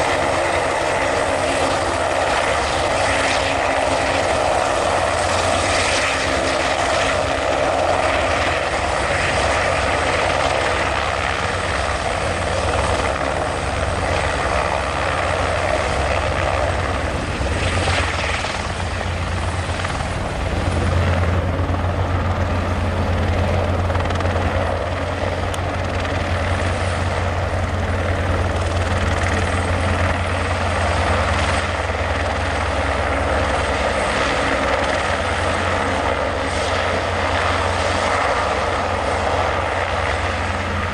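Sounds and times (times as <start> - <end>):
helicopter hovering: 0.0 - 40.9.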